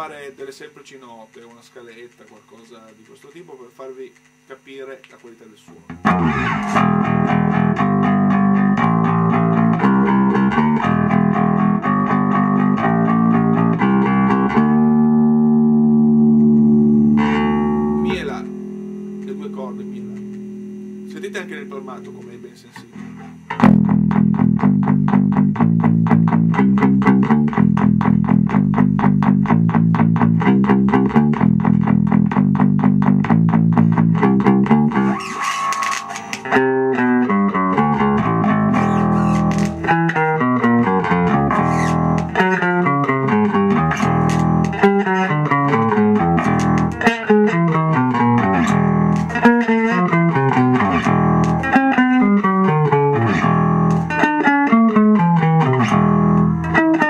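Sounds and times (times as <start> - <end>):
electric bass playing: 5.8 - 57.0.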